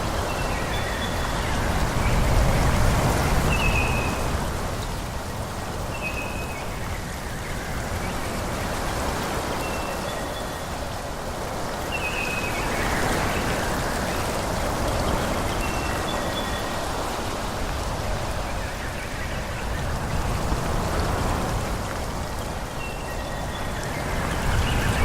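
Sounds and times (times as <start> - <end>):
wind rushing through trees: 0.0 - 25.0.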